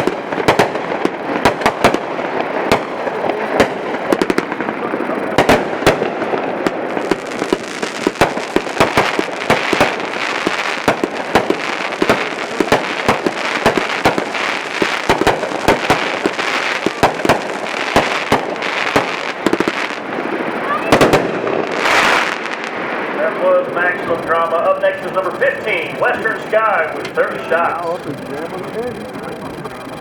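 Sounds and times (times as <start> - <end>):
crackle of bursting shells: 0.0 - 30.0
firework bangs: 0.0 - 30.0.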